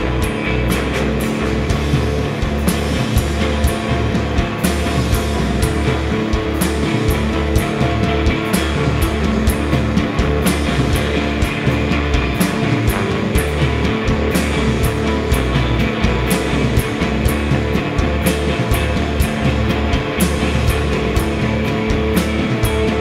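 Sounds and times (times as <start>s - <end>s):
drum kit: 0.0s - 23.0s
electric bass: 0.0s - 23.0s
electric guitar: 0.0s - 23.0s.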